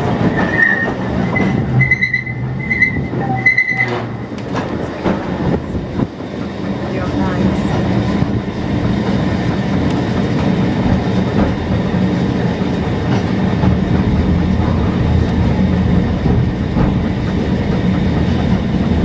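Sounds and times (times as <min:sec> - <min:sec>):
tramcar rumbling on rails: 0:00.0 - 0:19.0.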